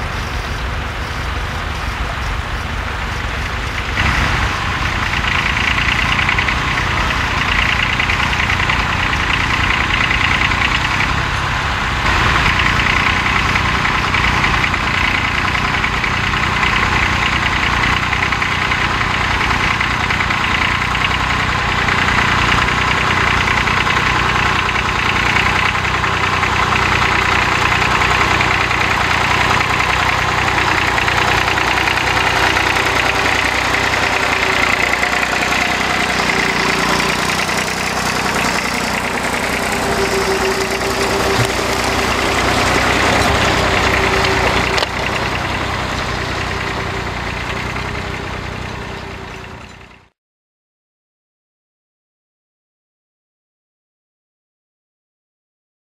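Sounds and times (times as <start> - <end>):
tractor engine running: 0.0 - 50.2.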